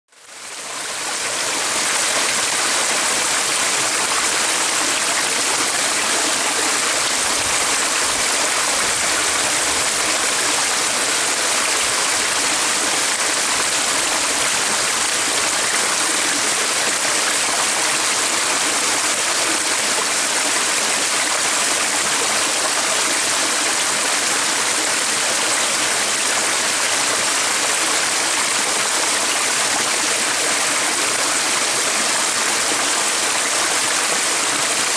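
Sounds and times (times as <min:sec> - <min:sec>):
stream rushing: 0:00.8 - 0:34.9.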